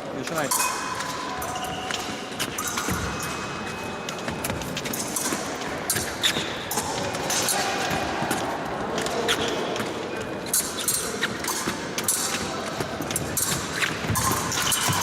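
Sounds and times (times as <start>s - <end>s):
murmur of large hall: 0.0s - 15.0s
fencing blades clacking: 0.3s - 15.0s.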